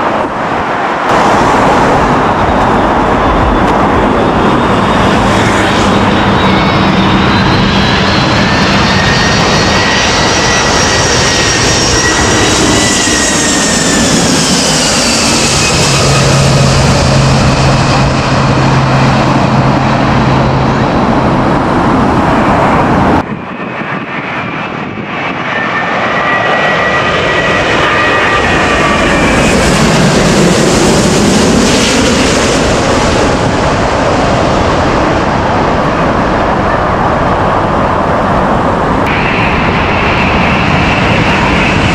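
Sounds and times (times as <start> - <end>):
jet airliners passing overhead: 0.0 - 41.9.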